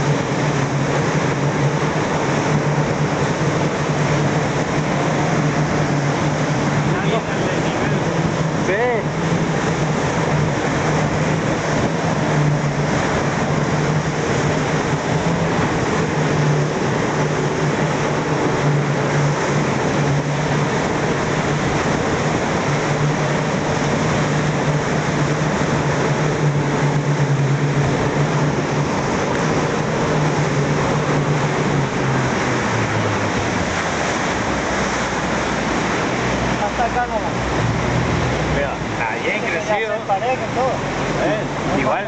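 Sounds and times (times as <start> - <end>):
motorboat engine drone: 0.0 - 42.0
water rushing: 0.0 - 42.0
wind: 0.0 - 42.0.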